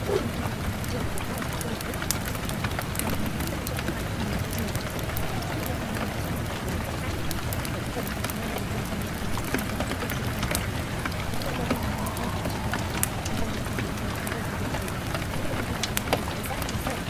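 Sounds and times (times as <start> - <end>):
raindrop clicks: 0.0 - 17.0
steady rain hiss: 0.0 - 17.0.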